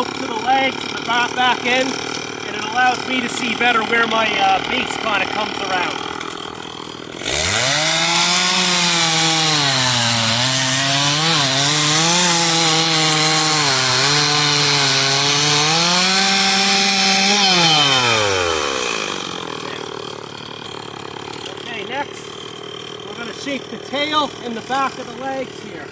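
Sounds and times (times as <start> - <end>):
chainsaw cutting wood: 0.0 - 25.9.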